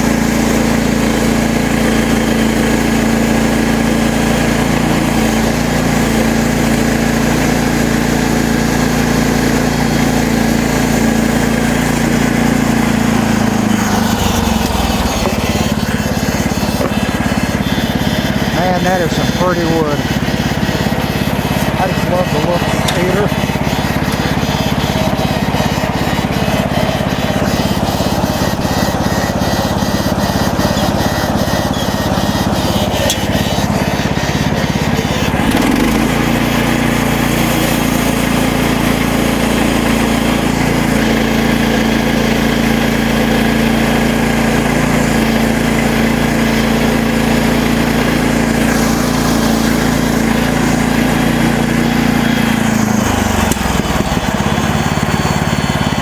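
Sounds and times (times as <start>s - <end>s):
bandsaw sawmill cutting log: 0.0s - 56.0s.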